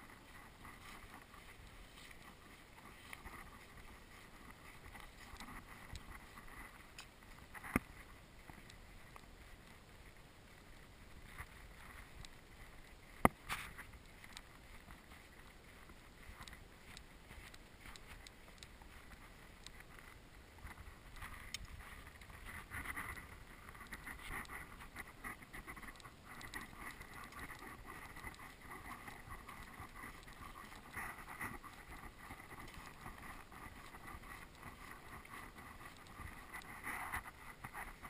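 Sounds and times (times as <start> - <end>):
footsteps crunching on sand: 0.0 - 38.0.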